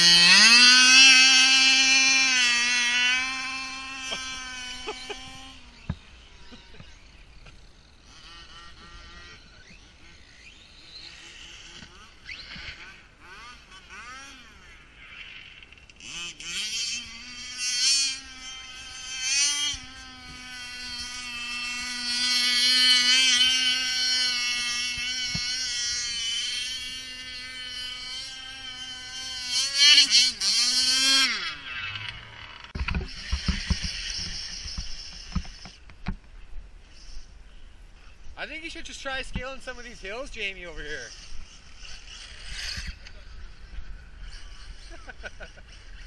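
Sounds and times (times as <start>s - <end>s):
radio-controlled car motor revving: 0.0s - 36.2s, 36.8s - 46.0s.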